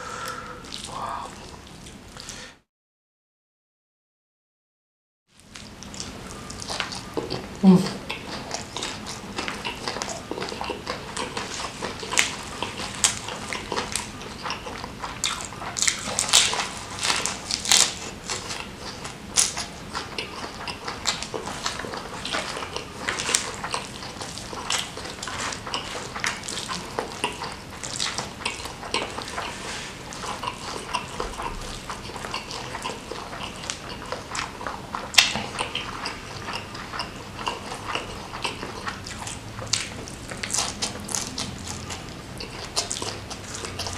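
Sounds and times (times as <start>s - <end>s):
chewing and crunching food: 0.3s - 2.4s, 5.3s - 43.9s.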